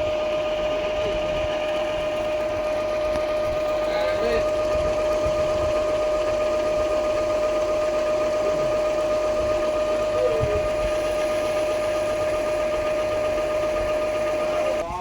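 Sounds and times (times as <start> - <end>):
small motor whining: 0.0 - 15.0.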